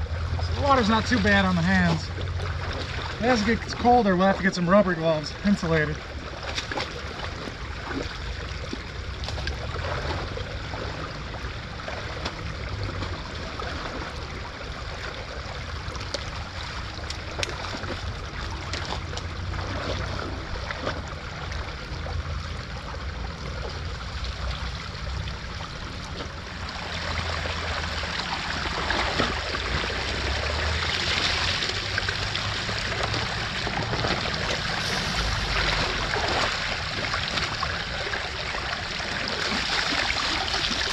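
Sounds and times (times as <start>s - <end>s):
creek water trickling: 0.0s - 40.9s
boots splashing in water: 0.4s - 4.5s, 5.4s - 11.2s, 11.8s - 14.2s, 15.9s - 21.7s, 25.7s - 40.9s.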